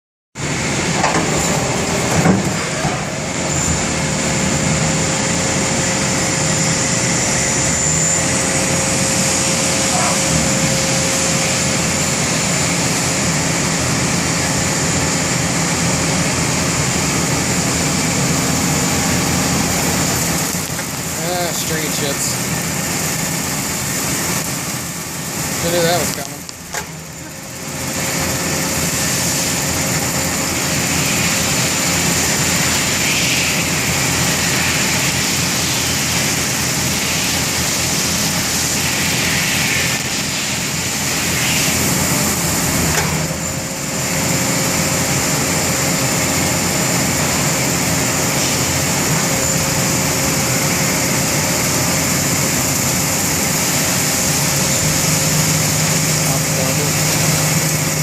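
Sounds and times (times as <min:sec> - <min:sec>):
lathe machine hum with whine: 0:00.4 - 0:58.0.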